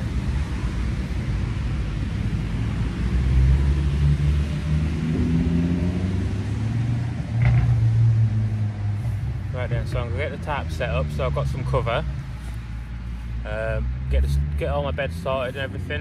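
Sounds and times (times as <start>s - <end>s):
cars passing with engine rumble: 0.0s - 16.0s.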